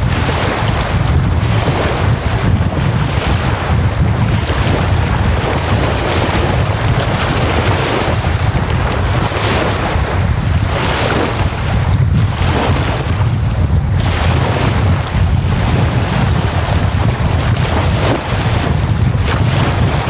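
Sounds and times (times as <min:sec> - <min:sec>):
small waves washing on shore: 0:00.0 - 0:20.0
wind rumbling on microphone: 0:00.0 - 0:20.0.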